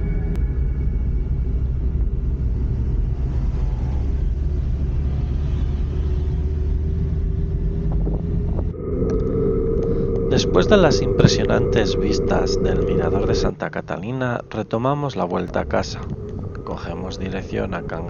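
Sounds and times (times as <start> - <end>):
faint engine tone rising: 0.0 - 18.0
vehicle rumble: 0.0 - 18.0.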